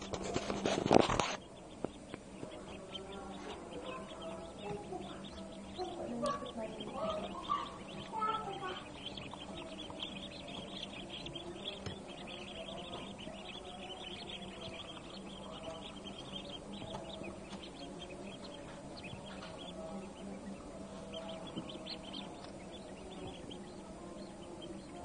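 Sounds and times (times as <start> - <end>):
ducklings peeping: 0.0 - 25.0
steady low hum: 0.0 - 25.0.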